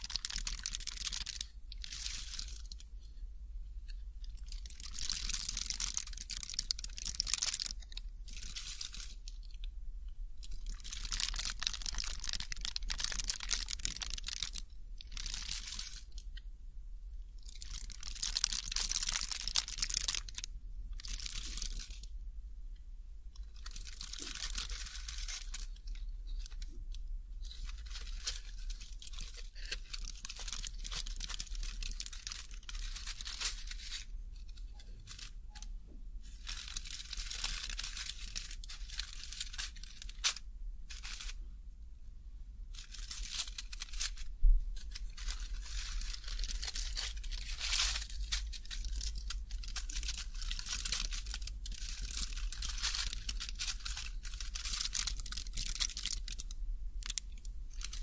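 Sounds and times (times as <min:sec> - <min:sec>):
snack packaging crinkling and tearing: 0:00.0 - 0:03.0, 0:04.2 - 0:09.7, 0:10.4 - 0:16.3, 0:17.4 - 0:22.1, 0:23.5 - 0:26.8, 0:27.4 - 0:35.7, 0:36.3 - 0:41.4, 0:42.8 - 0:58.0
faint low hum: 0:00.0 - 0:58.0.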